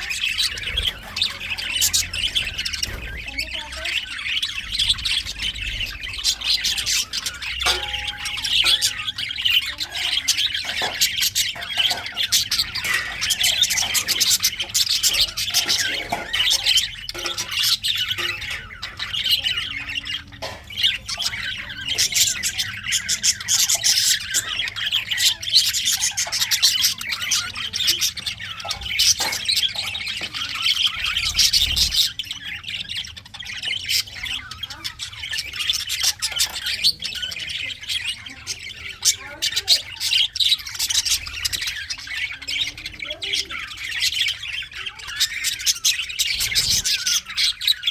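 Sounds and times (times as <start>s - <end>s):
budgerigars chirping: 0.0s - 47.9s.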